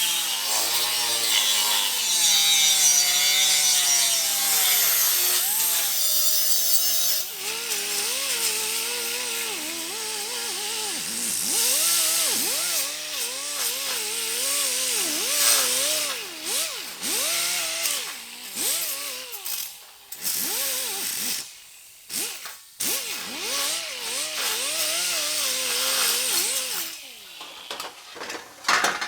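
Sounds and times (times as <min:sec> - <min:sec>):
power grinder on metal: 0:00.0 - 0:29.0.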